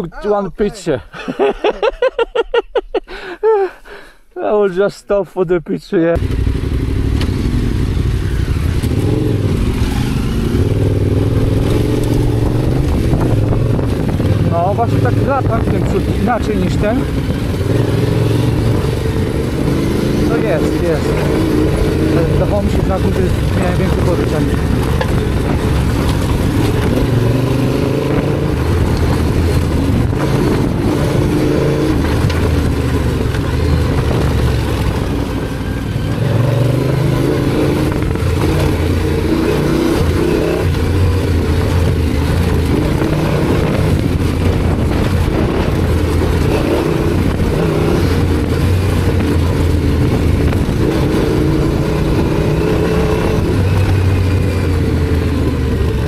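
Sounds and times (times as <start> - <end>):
motorcycle engine running: 6.2 - 56.0.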